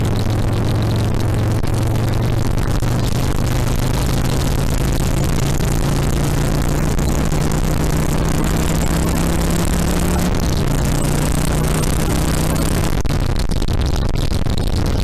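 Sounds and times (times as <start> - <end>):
motorcycle engine running: 0.0 - 13.4
rushing noise: 0.0 - 13.4.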